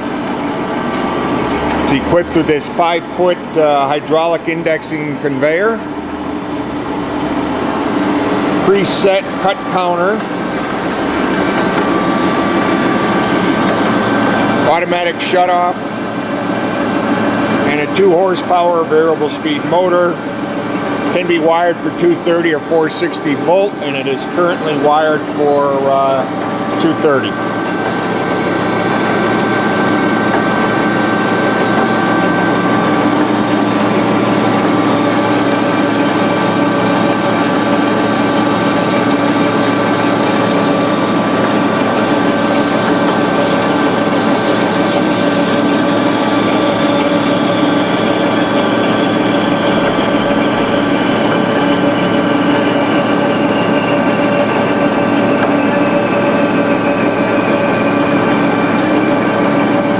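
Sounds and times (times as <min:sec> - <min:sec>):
band saw mechanical hum: 0:00.0 - 0:59.9
high whine falling in pitch: 0:00.0 - 0:59.9.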